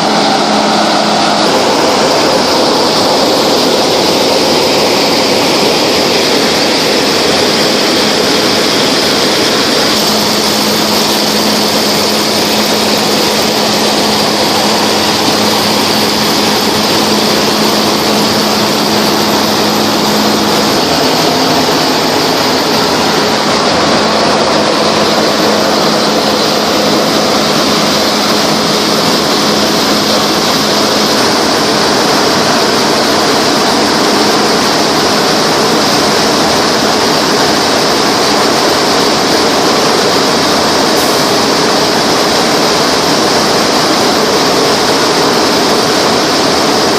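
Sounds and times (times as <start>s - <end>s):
steady hum: 0.0s - 46.9s
tractor and harvester running: 0.0s - 46.9s.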